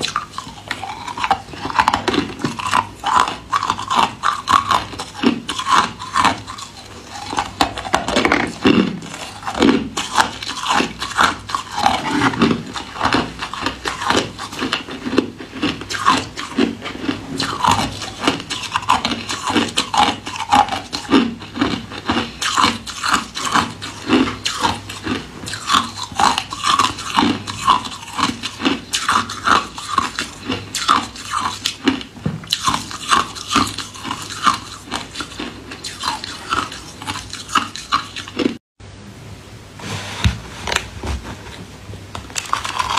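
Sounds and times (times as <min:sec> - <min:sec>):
ice being chewed: 0:00.0 - 0:38.6, 0:42.2 - 0:42.9.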